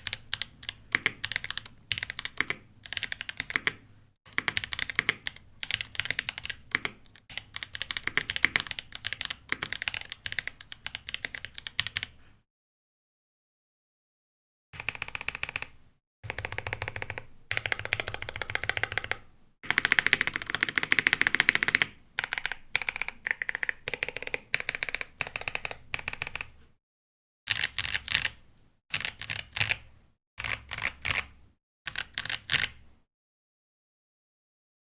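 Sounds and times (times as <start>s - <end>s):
mechanical keyboard typing: 0.0s - 12.1s, 14.8s - 26.6s, 27.5s - 29.8s, 30.4s - 31.3s, 31.9s - 32.8s.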